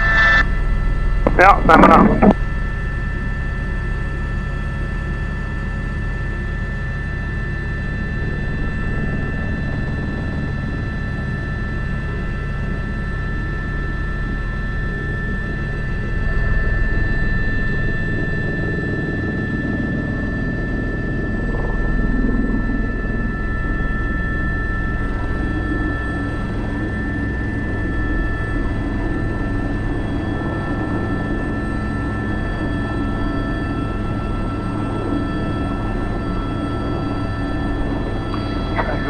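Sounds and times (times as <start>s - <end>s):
helicopter turbine whine: 0.0s - 39.0s
low rotor noise: 0.0s - 39.0s.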